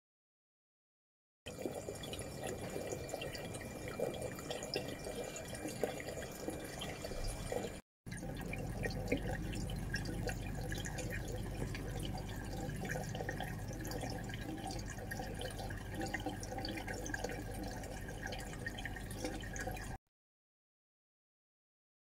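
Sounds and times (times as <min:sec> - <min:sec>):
water trickling and dripping: 0:01.5 - 0:20.0.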